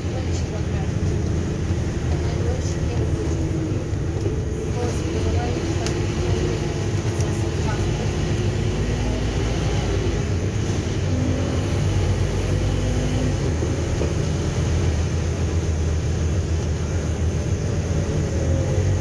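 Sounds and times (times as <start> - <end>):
bus engine drone: 0.0 - 19.0
road and body noise: 0.0 - 19.0.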